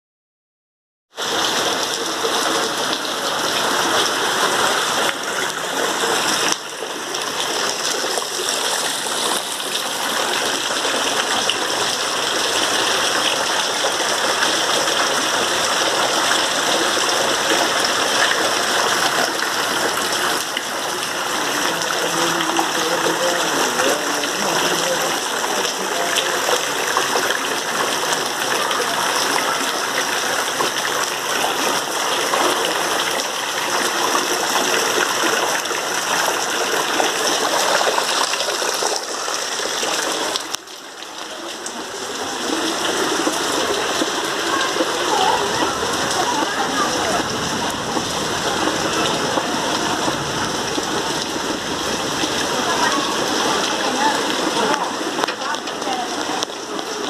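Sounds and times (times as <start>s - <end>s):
heavy rain: 1.1s - 57.0s
gushing running water: 1.2s - 57.0s.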